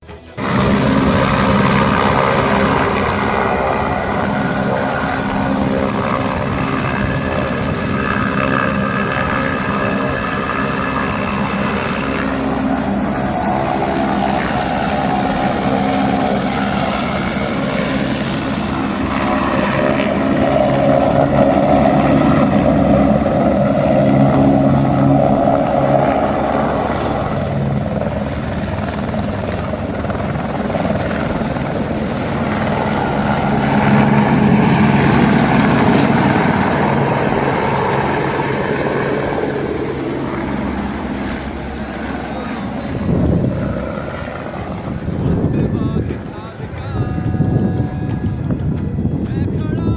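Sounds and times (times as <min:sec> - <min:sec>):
helicopter engine and rotor: 0:00.3 - 0:49.9.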